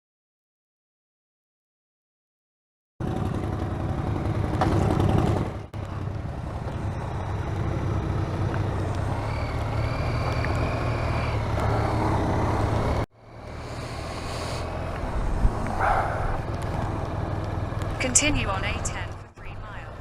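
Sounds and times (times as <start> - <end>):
motorcycle engine running: 3.0 - 20.0
road and wind noise: 3.0 - 20.0.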